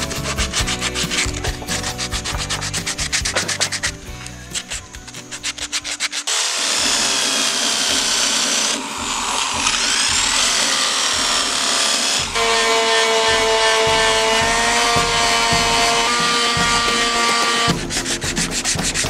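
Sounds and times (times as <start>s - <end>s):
electric sheet sander humming: 0.0s - 19.0s
rotary sanding tool whining: 0.0s - 19.0s
wood block rubbed on sandpaper: 0.0s - 19.0s.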